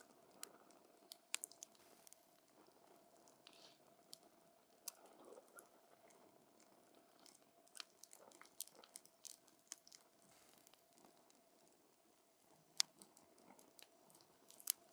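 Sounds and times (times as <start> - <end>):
soft hiss: 0.0 - 7.8, 9.2 - 14.9
faint steady hum: 0.0 - 14.9.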